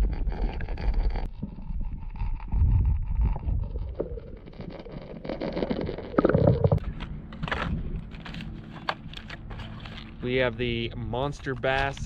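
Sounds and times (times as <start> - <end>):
muffled underwater rumbling: 0.0 - 10.2.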